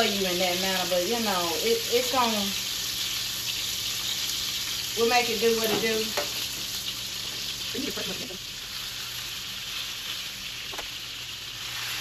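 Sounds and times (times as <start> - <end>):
chicken searing in hot oil: 0.0 - 12.0.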